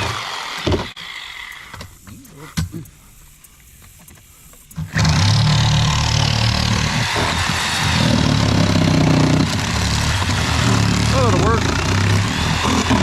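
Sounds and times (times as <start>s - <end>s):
reciprocating saw cutting fiberglass: 0.0s - 2.2s, 4.6s - 13.0s.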